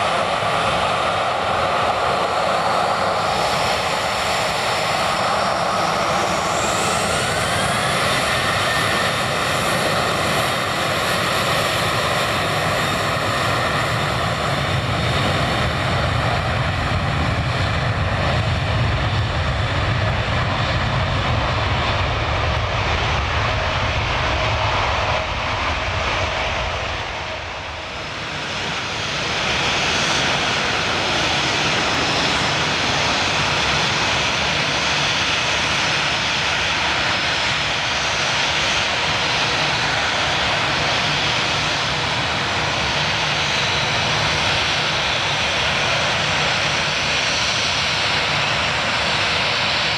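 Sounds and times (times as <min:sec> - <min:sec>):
jet engine whine: 0:00.0 - 0:49.9
jet engines roaring: 0:00.0 - 0:49.9.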